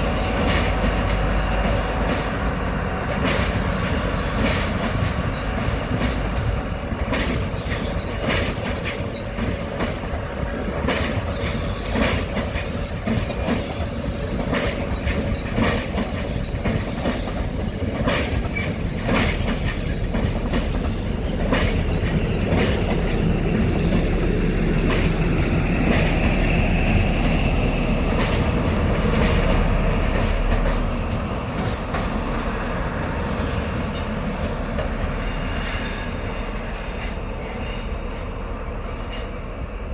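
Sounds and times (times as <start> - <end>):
train wheels clicking over rail joints: 0.0 - 39.6
train rumble: 0.0 - 39.9.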